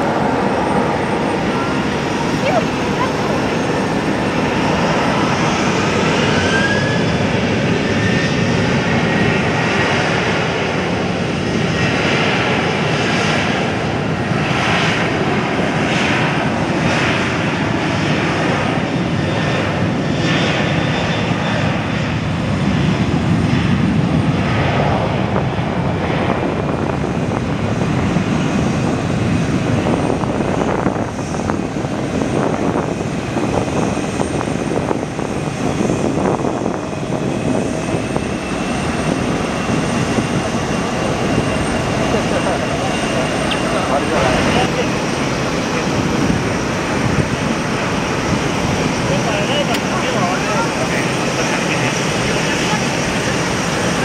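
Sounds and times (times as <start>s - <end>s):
jet engines at takeoff thrust: 0.0s - 54.0s.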